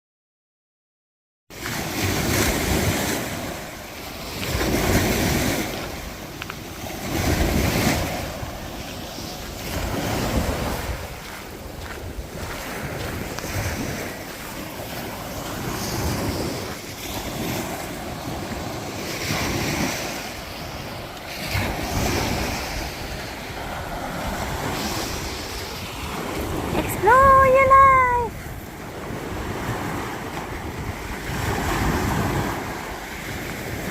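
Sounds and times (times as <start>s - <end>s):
sea water rushing: 1.6s - 33.9s
wind buffeting microphone: 1.9s - 33.9s.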